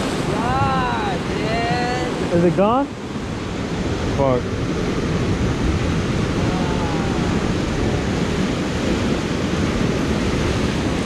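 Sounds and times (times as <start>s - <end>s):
surf breaking on rocks: 0.0s - 11.0s
wind on microphone: 0.0s - 11.0s.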